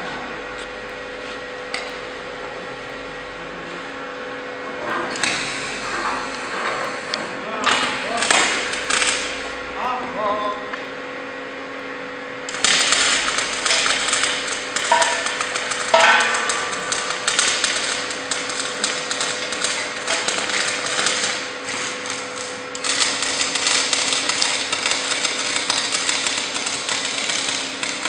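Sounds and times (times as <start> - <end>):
arc welding crackling: 0.0 - 28.0
steady low hum: 0.0 - 28.0.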